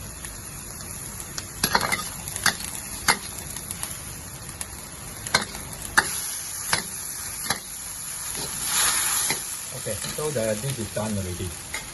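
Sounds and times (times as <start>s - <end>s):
sauce bubbling and hissing: 0.0s - 11.9s.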